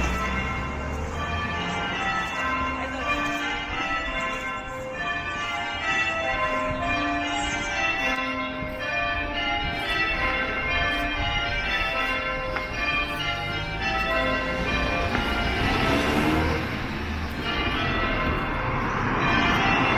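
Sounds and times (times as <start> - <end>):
bells ringing: 0.0 - 19.9.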